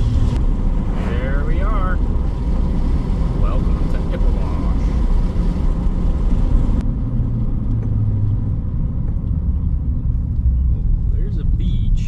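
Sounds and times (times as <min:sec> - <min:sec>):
pickup truck engine and road rumble: 0:00.0 - 0:12.0.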